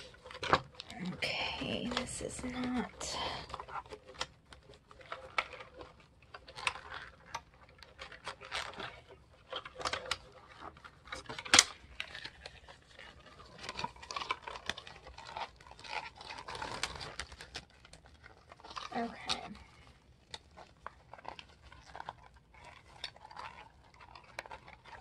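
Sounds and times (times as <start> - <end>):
paper pages rustling on binding wire: 0.0 - 25.0.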